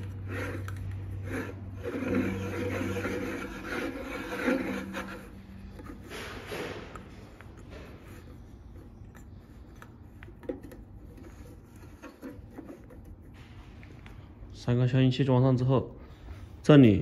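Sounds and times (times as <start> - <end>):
rubbing and scraping on threads: 0.0 - 14.3.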